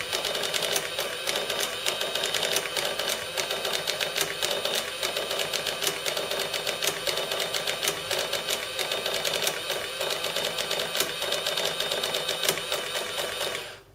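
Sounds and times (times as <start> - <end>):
receipt printer clattering: 0.0 - 13.8
printer motor hum: 0.0 - 13.9.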